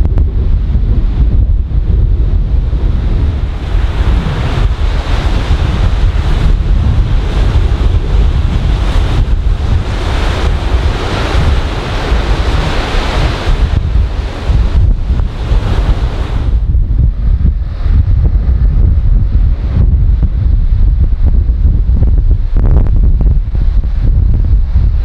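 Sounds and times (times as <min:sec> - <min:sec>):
surf breaking on a beach: 0:00.0 - 0:25.0
wind buffeting the microphone: 0:00.0 - 0:25.0.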